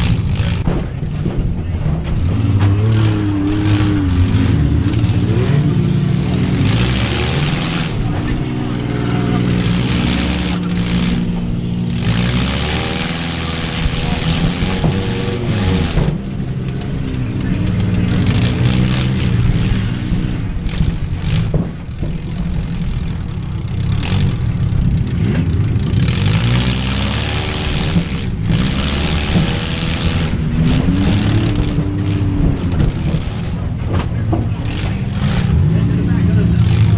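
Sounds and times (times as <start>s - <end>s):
van engines revving hard: 0.0s - 36.9s
vehicles colliding bangs: 0.0s - 36.9s.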